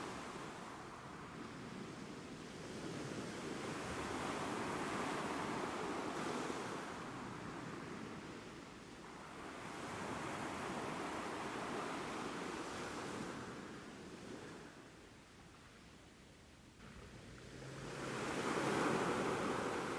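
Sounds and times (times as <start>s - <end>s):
ocean waves in surf: 0.0s - 15.2s, 16.8s - 19.9s.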